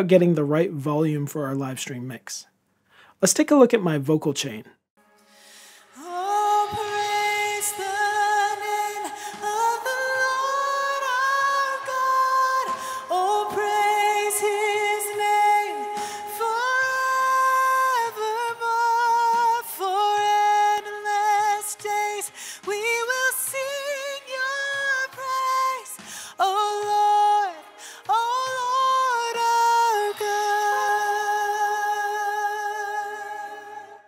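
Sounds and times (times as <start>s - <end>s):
woman singing unaccompanied: 6.0s - 34.0s.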